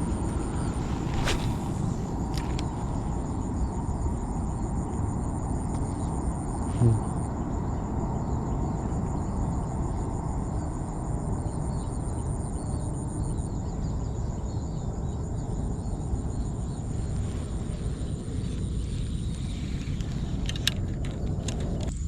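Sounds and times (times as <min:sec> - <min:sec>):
insects trilling faintly: 0:00.0 - 0:22.0.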